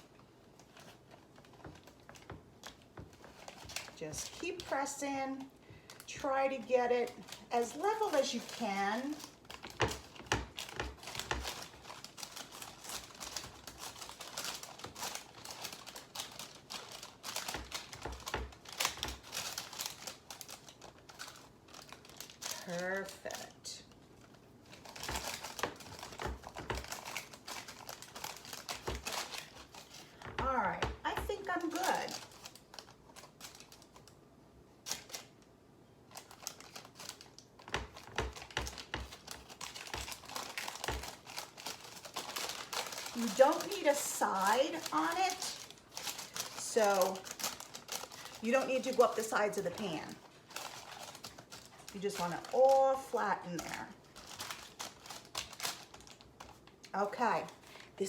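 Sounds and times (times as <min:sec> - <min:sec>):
parchment paper crinkling: 0:00.0 - 0:34.2, 0:34.8 - 0:58.0.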